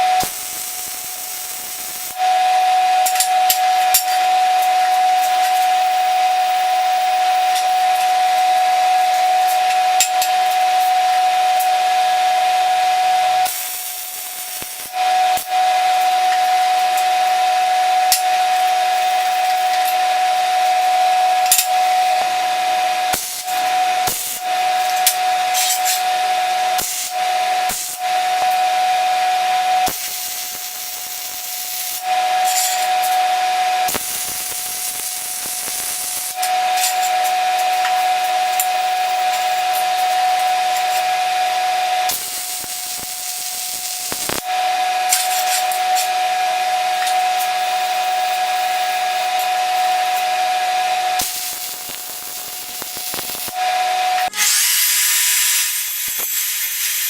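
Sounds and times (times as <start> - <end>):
welding hiss and crackle: 0.0 - 57.0.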